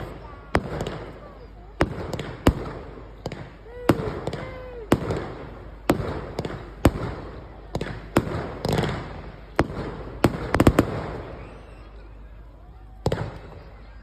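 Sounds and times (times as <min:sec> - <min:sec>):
fireworks bangs: 0:00.0 - 0:12.3, 0:13.0 - 0:14.0.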